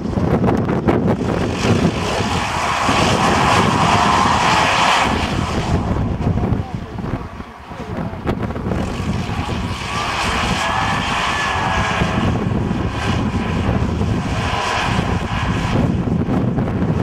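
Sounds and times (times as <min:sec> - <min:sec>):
engine droning: 0:00.0 - 0:17.0
whining tone: 0:00.0 - 0:17.0.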